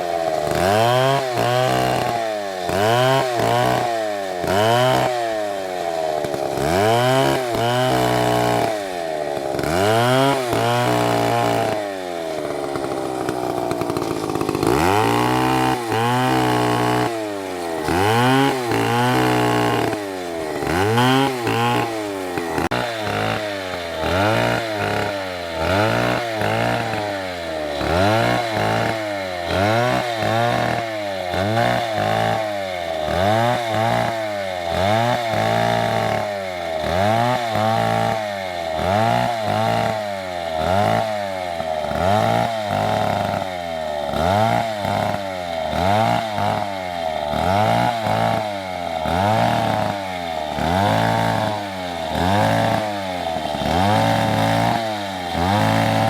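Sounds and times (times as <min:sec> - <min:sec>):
chainsaw cutting: 0:00.0 - 0:56.0.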